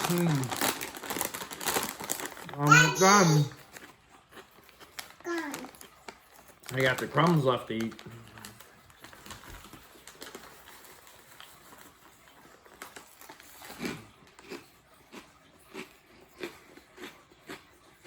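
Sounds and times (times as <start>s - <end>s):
crunchy food crunching: 0.0s - 2.5s, 3.5s - 18.0s
soft chewing sounds: 3.5s - 18.0s.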